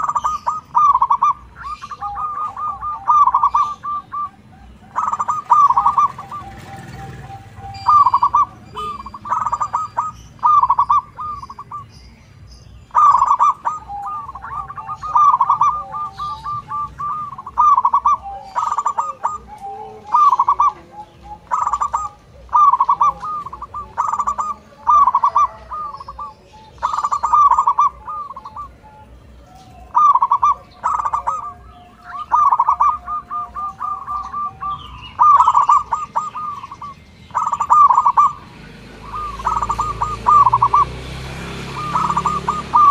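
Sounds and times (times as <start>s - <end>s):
dove cooing: 0.0s - 12.1s, 12.8s - 42.9s.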